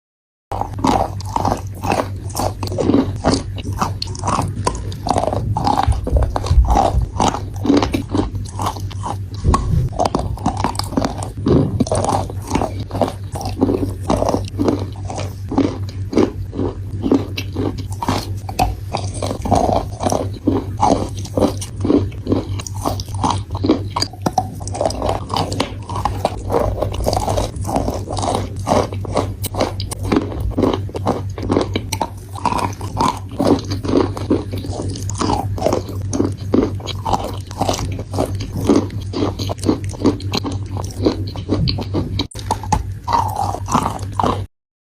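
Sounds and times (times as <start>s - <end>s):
chalk being chewed: 0.5s - 44.5s.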